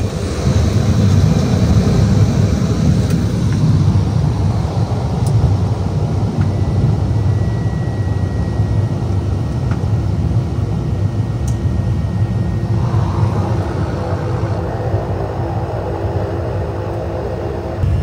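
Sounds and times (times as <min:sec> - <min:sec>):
turboprop engine droning: 0:00.0 - 0:18.0.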